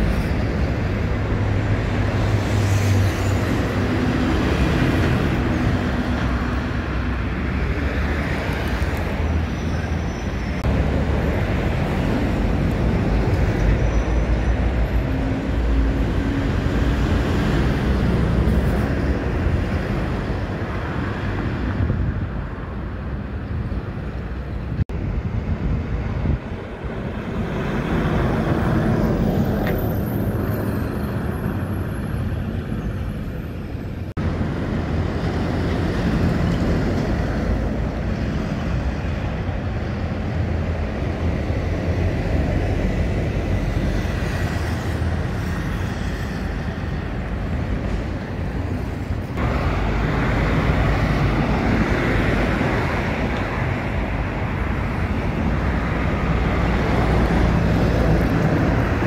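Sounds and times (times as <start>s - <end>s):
buses and cars driving past: 0.0s - 59.0s
tyres on road: 0.0s - 59.0s.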